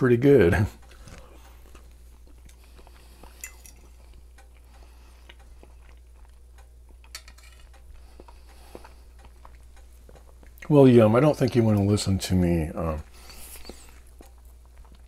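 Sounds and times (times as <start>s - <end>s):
quiet chewing: 0.7s - 11.9s, 13.0s - 15.0s.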